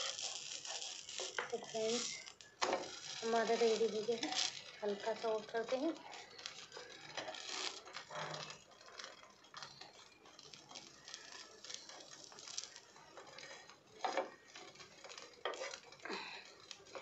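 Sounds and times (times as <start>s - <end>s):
metal spatula scraping a griddle: 0.0s - 17.0s.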